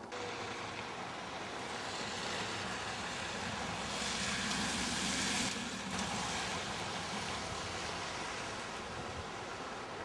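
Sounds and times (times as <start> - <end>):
car passing on snowy road: 0.0 - 10.0
road traffic hiss and rumble: 0.0 - 10.0.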